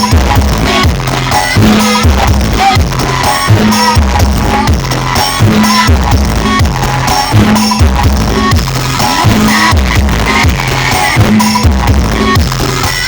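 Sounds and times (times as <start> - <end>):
heavy bass beat: 0.0 - 13.0
loud dance music: 0.0 - 13.0
percussion: 0.0 - 13.0.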